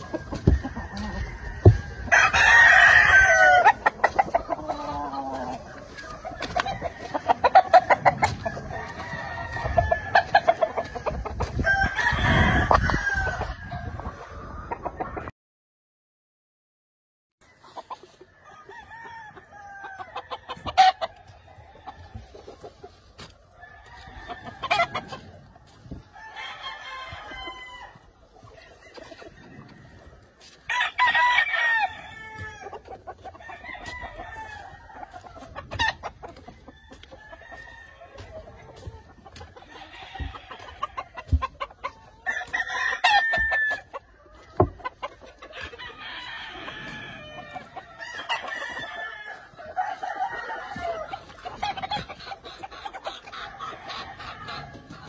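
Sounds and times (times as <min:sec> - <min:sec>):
roosters crowing: 0:00.0 - 0:14.4, 0:17.4 - 0:55.0.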